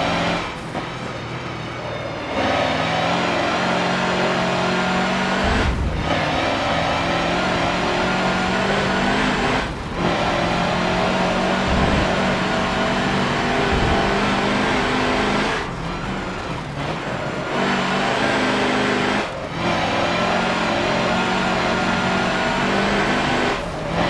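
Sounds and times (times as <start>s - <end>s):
truck diesel engine running hard: 0.0s - 24.0s.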